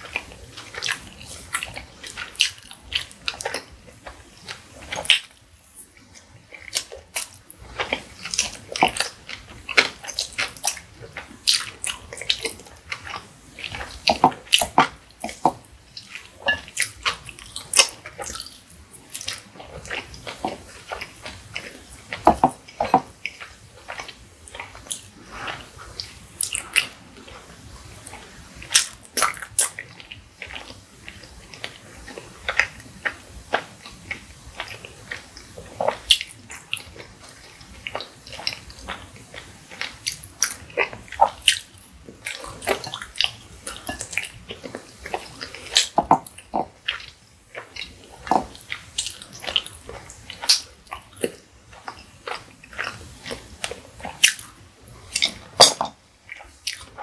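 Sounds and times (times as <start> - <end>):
wet chewing and smacking: 0.0 - 57.0.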